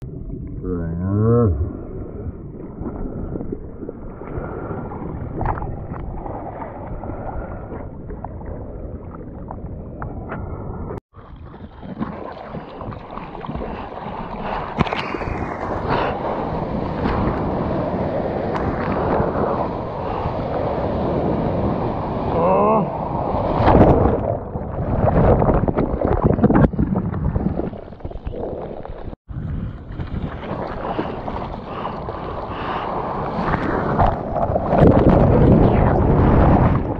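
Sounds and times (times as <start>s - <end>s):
wind on microphone: 1.2s - 36.9s
sea water sloshing and splashing: 1.7s - 36.9s.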